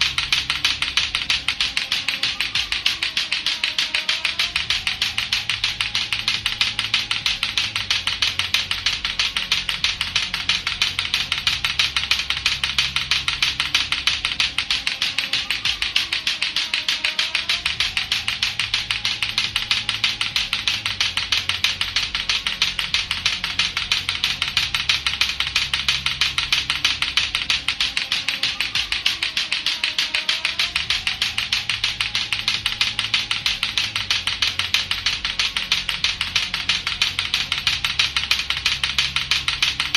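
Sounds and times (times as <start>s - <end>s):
looping background music: 0.0s - 39.9s
plastic clacker balls clacking: 0.0s - 39.9s.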